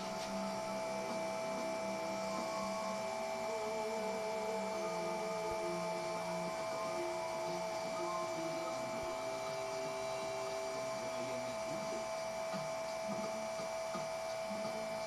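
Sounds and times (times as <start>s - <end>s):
electrical hum with high whine: 0.0s - 15.0s.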